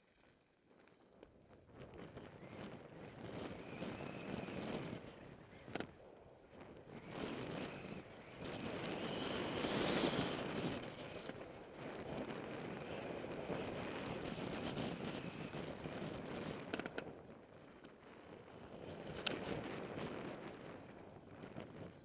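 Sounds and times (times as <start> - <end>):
wind rushing over microphone: 1.7 - 22.0.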